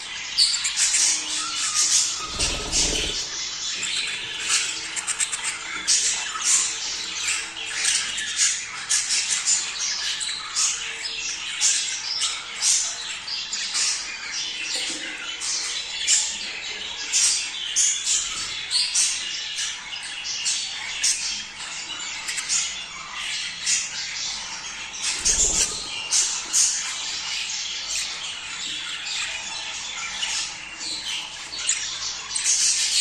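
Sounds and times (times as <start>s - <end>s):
budgerigars chattering and squawking: 0.0s - 33.0s.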